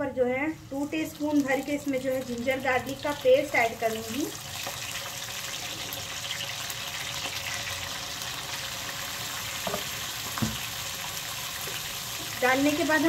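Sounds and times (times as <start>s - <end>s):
onions sizzling in hot oil: 0.2s - 13.0s.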